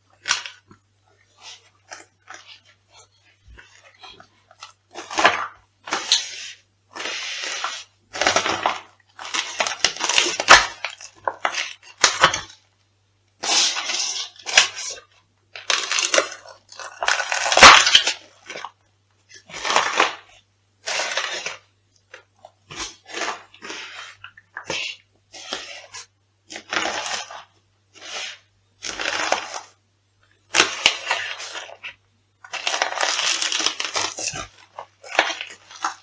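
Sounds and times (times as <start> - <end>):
crunchy food crushed underfoot: 1.4 - 12.6, 15.6 - 18.8, 19.4 - 29.8, 30.5 - 36.0.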